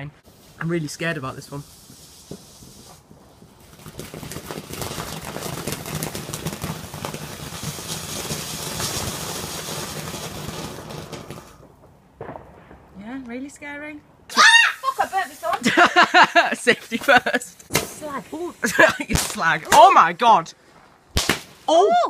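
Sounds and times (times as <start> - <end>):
firework fountain hissing and crackling: 0.2 - 12.7, 14.3 - 22.0.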